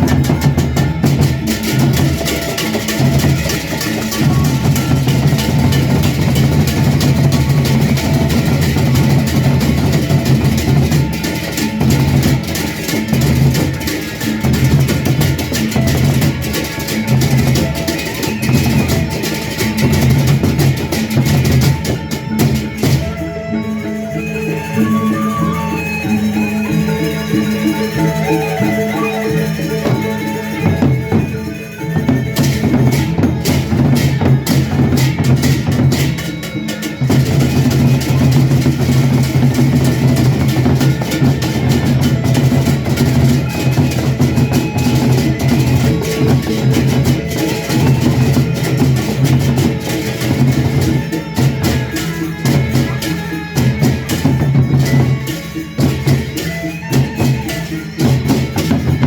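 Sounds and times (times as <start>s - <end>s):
drums and percussion: 0.0s - 59.0s.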